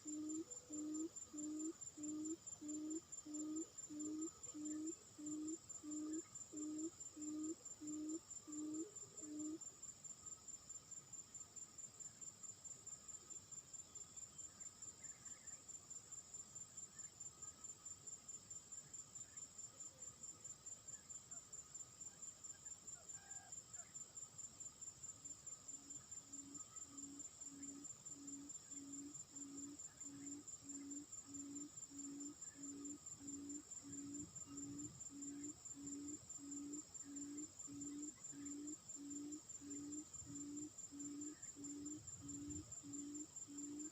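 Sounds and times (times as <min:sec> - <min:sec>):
insects trilling: 0:00.0 - 0:43.9.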